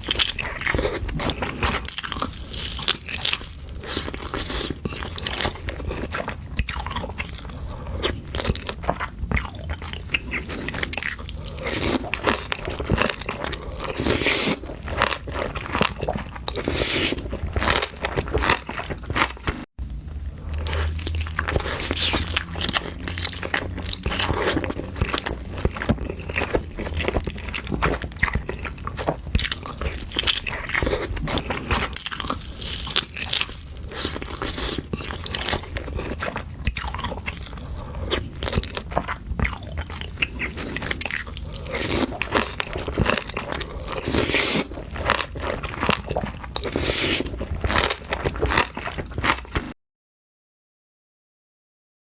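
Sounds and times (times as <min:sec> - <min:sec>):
crunching and chewing seafood: 0:00.0 - 0:49.8.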